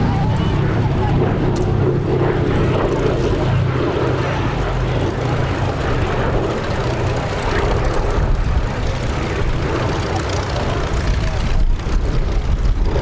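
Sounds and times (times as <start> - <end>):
propeller plane flying past: 0.0 - 13.0.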